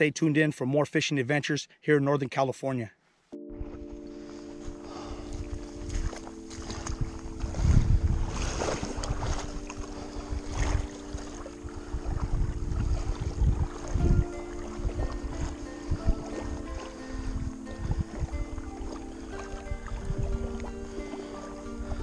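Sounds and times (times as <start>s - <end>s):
soft music of held chords: 3.4s - 22.0s
wind buffeting microphone: 3.5s - 22.0s.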